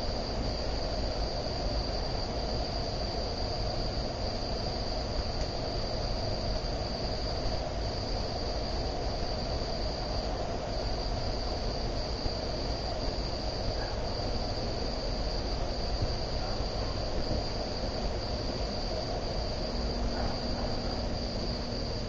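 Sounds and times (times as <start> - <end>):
ceiling fan running: 0.0 - 22.0.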